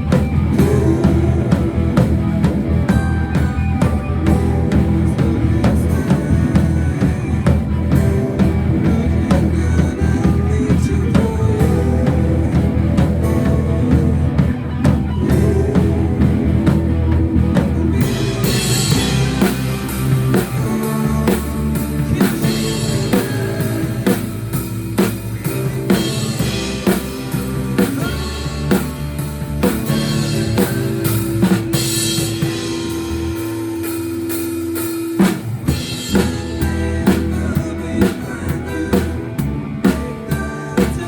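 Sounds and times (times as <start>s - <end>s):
bass line: 0.0s - 41.0s
rock band playing: 0.0s - 41.0s.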